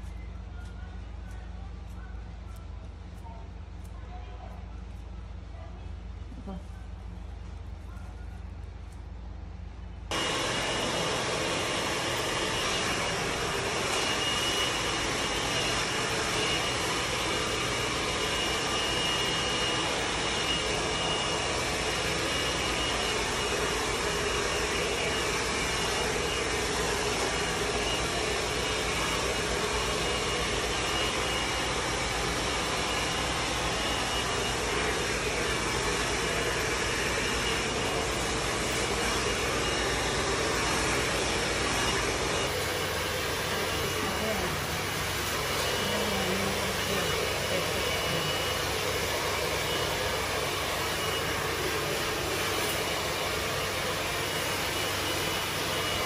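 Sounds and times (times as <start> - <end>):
hair dryer blowing air: 10.1 - 56.0
hair dryer motor whine: 10.1 - 56.0.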